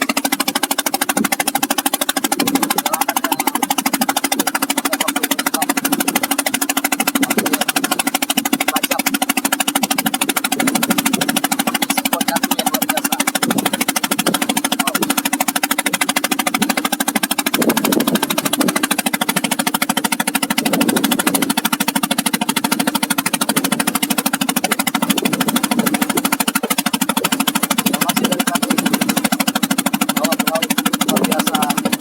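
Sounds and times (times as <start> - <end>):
boat engine knocking: 0.0 - 32.0.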